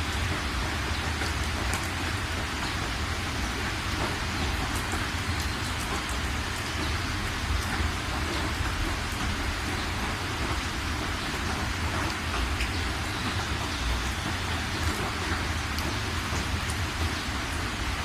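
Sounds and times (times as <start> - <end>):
rain patter: 0.0 - 18.0.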